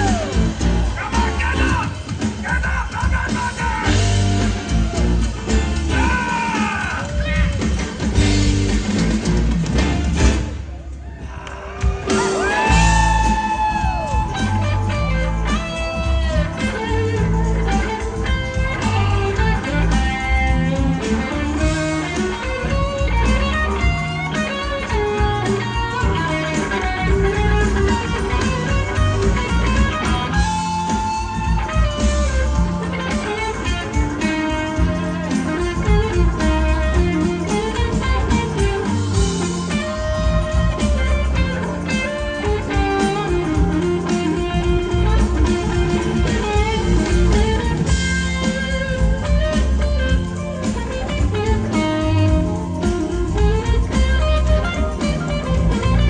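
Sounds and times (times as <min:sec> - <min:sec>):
electric guitar lead: 0:00.0 - 0:10.5, 0:11.8 - 0:56.0
rock band playing: 0:00.0 - 0:56.0.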